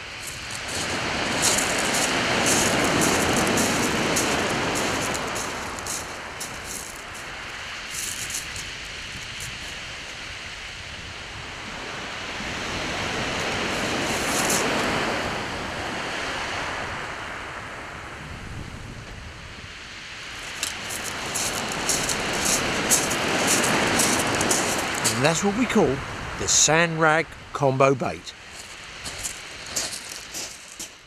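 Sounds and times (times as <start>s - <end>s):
surf washing on shingle: 0.0s - 10.6s, 11.7s - 16.8s, 20.2s - 31.0s.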